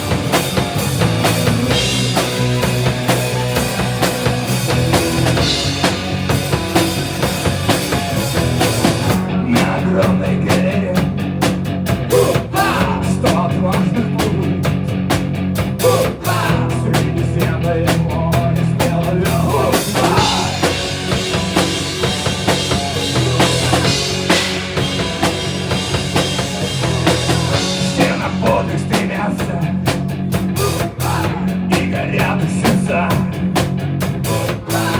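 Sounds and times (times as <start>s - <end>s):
rock band playing live: 0.0s - 34.9s
steady drum beat: 0.0s - 34.9s.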